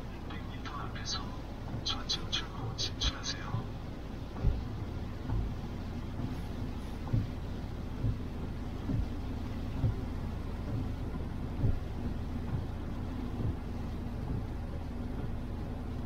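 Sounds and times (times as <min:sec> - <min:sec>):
car driving on wet road: 0:00.0 - 0:16.0
soft low thumps: 0:00.0 - 0:16.0.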